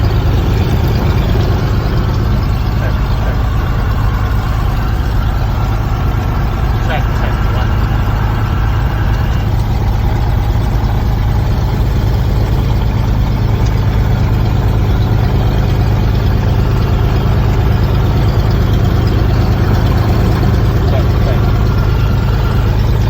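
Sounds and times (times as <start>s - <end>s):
propeller plane engine idling: 0.0s - 23.0s.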